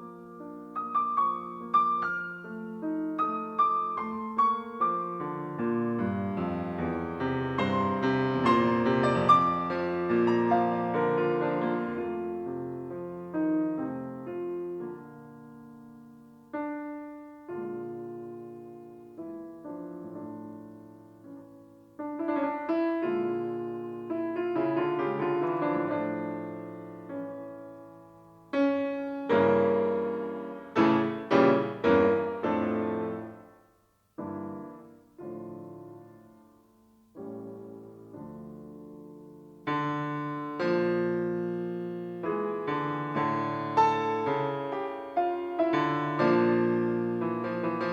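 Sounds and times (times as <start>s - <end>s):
slow solo piano: 0.0s - 47.9s.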